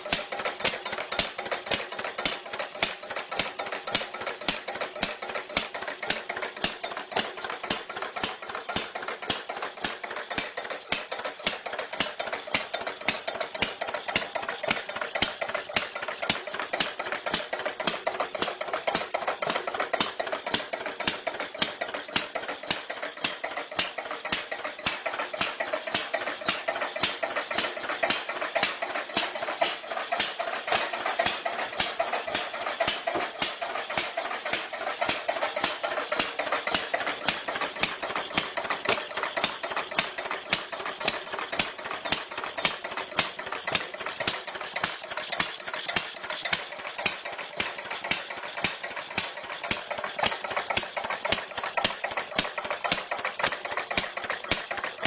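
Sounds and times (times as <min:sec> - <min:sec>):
old engine idling with clatter: 0:00.0 - 0:55.0.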